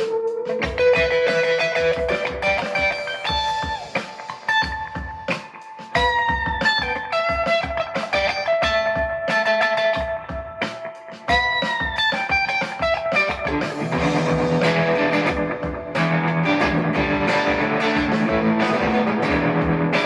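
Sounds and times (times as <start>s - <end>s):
overdriven electric guitar lead: 0.0s - 20.0s.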